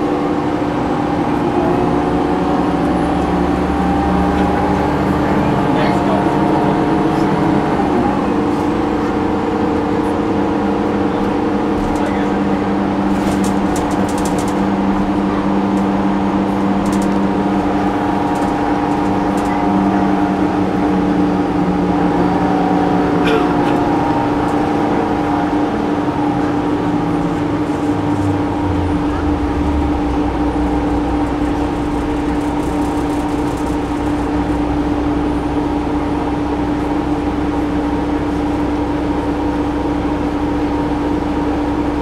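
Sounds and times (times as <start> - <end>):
bus engine drone with whining: 0.0 - 42.0
road noise: 0.0 - 42.0.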